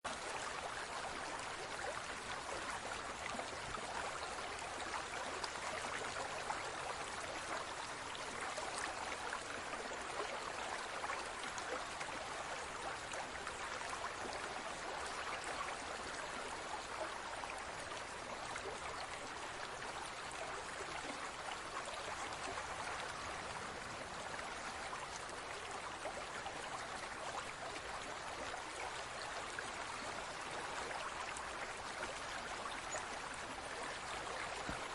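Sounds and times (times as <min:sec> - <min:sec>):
aquarium water trickling and bubbling: 0:00.1 - 0:34.9.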